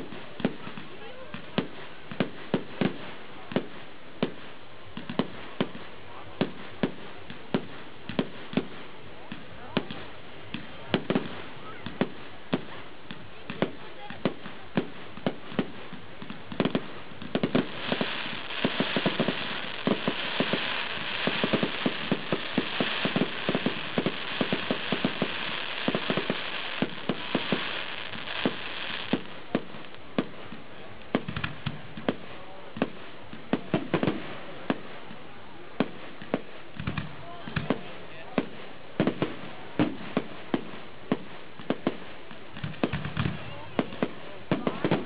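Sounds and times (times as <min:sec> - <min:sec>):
dense hissing crackle: 0:00.0 - 0:45.0
fireworks bangs: 0:00.0 - 0:45.0.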